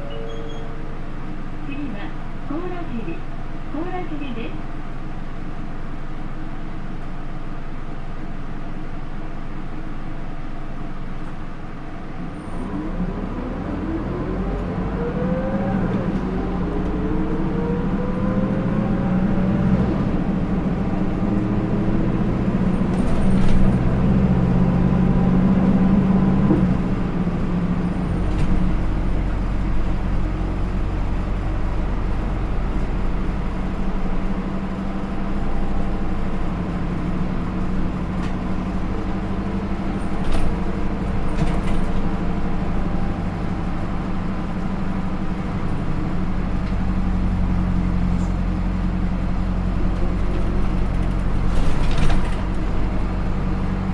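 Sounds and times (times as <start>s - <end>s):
bus diesel engine: 0.0s - 53.9s.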